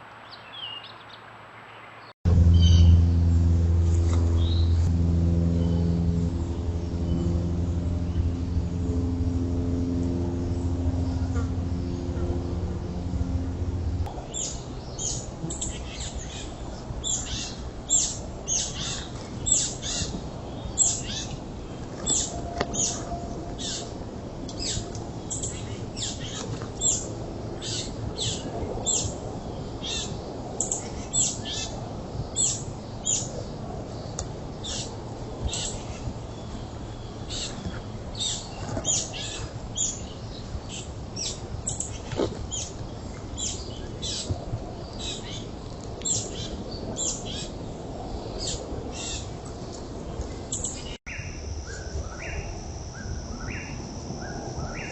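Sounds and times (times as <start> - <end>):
low background rumble: 2.3 - 54.9
birds chipping: 10.5 - 54.9.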